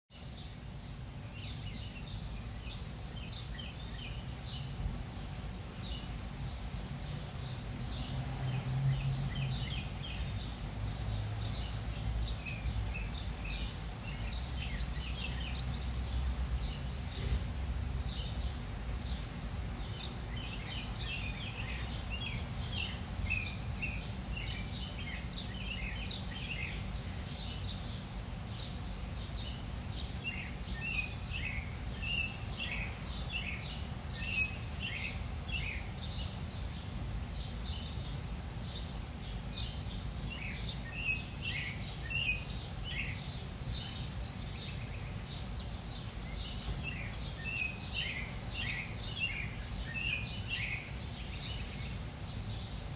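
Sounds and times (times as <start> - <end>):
small birds chirping: 0.1 - 52.9.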